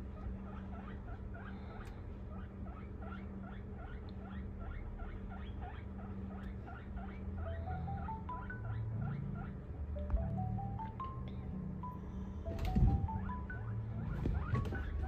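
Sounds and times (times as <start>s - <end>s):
guinea pig squeaking: 0.0s - 11.2s, 11.8s - 15.0s.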